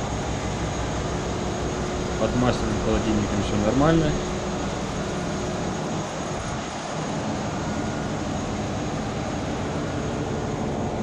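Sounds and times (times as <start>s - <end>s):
engine room machinery drone: 0.0s - 11.0s.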